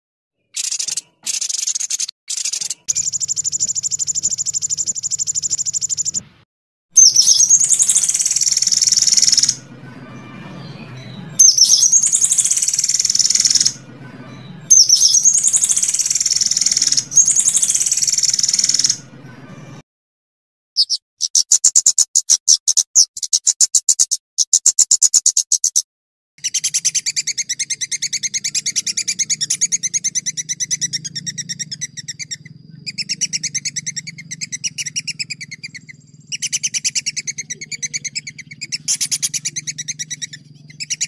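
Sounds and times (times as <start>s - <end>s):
songbird trilling: 0.5s - 6.2s, 7.0s - 19.6s, 20.8s - 25.8s, 26.4s - 41.0s.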